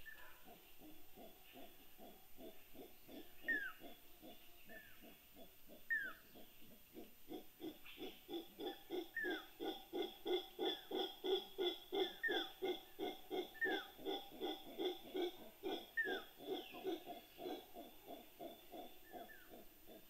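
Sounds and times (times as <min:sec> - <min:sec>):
howler monkeys grunting: 0:00.1 - 0:20.0.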